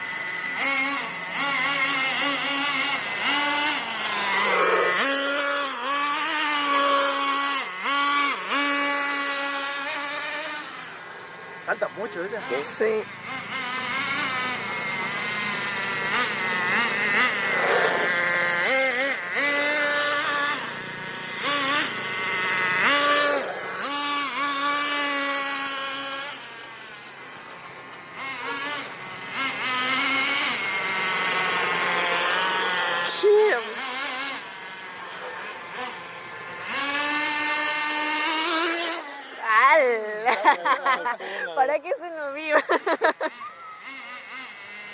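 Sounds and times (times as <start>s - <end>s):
small buggy motor revving: 0.0s - 44.9s.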